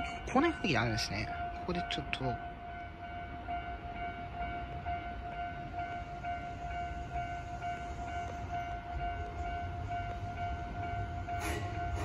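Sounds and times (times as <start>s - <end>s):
railway warning bell ringing: 0.0s - 12.0s.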